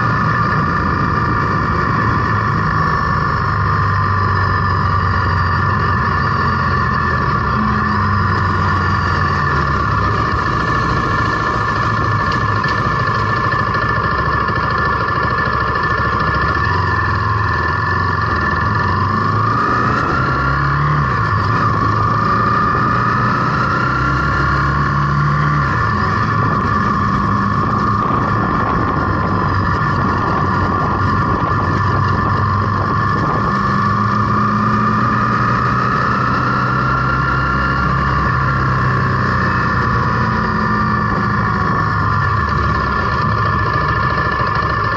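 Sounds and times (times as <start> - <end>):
motorcycle engine accelerating: 0.0 - 44.9
wind noise on microphone: 0.0 - 44.9.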